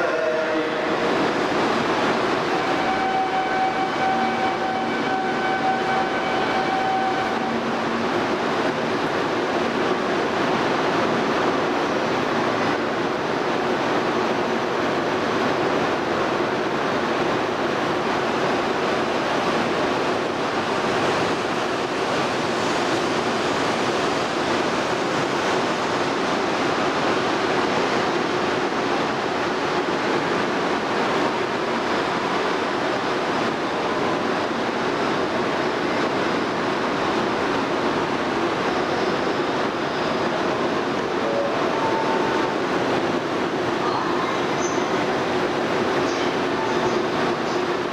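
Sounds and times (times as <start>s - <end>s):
train rushing through station: 0.0s - 47.9s.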